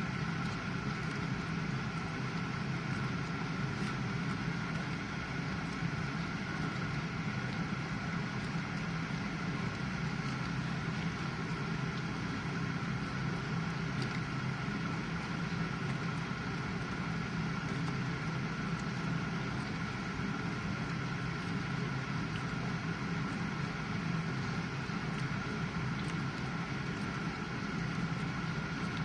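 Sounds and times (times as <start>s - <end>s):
dishwasher pump humming: 0.0s - 29.0s
dishwasher water wash noise: 0.0s - 29.0s.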